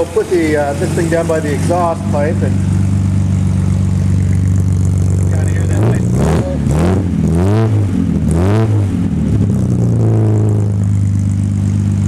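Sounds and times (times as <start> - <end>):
car engine idling: 0.0 - 12.0
car engine throttle blips: 0.0 - 12.0.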